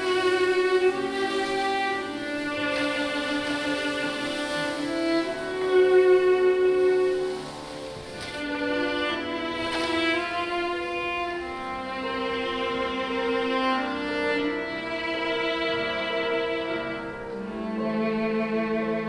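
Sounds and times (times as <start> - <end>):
cello playing slow notes: 0.0 - 19.0.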